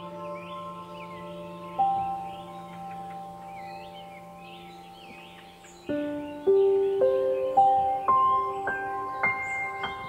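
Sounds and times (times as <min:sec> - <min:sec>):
bell-like music notes: 0:00.0 - 0:10.0
birds chirping: 0:00.0 - 0:10.0.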